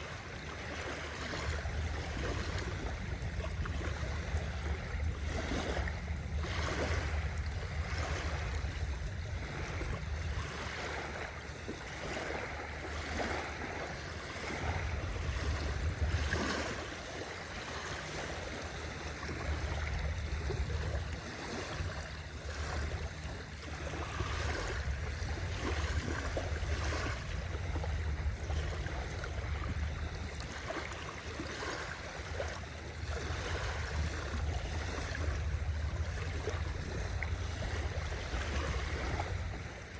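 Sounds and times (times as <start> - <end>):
sea waves washing in: 0.0 - 39.9
steady low rumble: 1.0 - 39.9.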